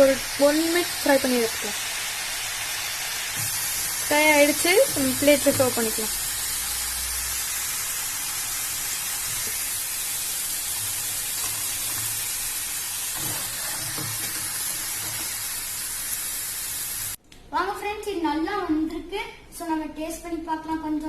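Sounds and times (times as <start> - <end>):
potatoes sizzling in hot oil: 0.0 - 17.2.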